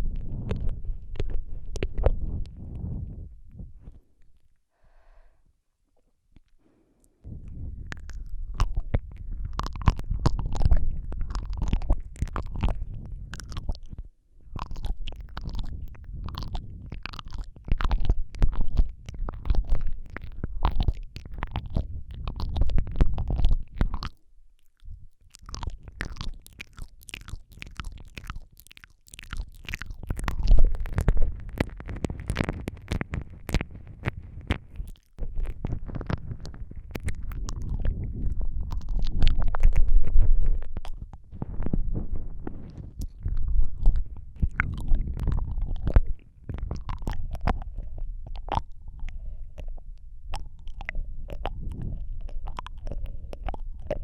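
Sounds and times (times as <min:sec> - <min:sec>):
wet mouth clicks and smacks: 0:00.0 - 0:04.6, 0:06.3 - 0:54.0
low breath noise at microphone: 0:00.0 - 0:54.0.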